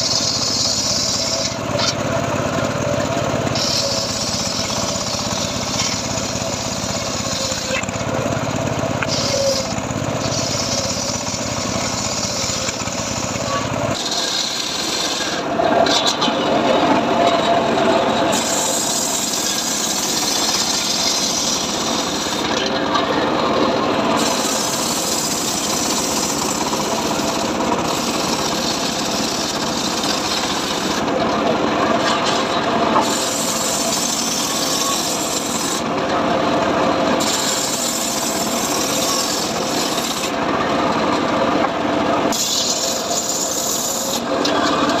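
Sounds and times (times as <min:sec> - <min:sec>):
table saw cutting wood: 0:00.0 - 0:45.0.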